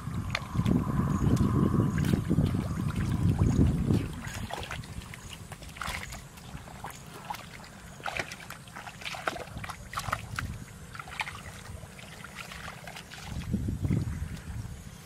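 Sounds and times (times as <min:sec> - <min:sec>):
steady low rumble: 0:00.0 - 0:08.8, 0:09.4 - 0:15.0
feet splashing in muddy water: 0:00.2 - 0:14.5.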